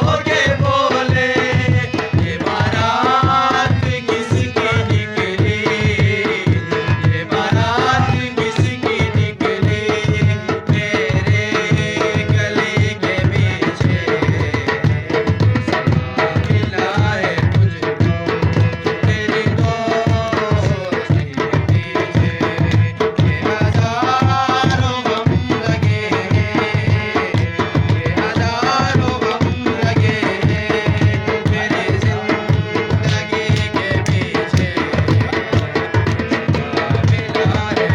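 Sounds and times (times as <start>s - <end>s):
tabla rhythm: 0.0s - 37.9s.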